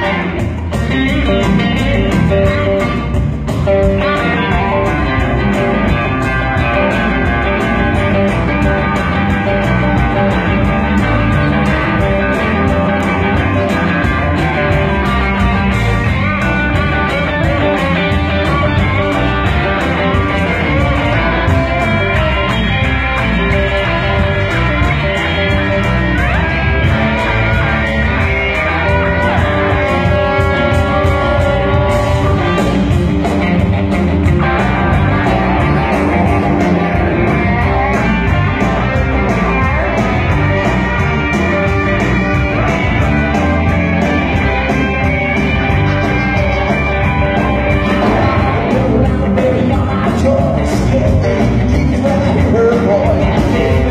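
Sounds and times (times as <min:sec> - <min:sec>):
blues band playing: 0:00.0 - 0:53.9
held guitar notes: 0:00.0 - 0:53.9.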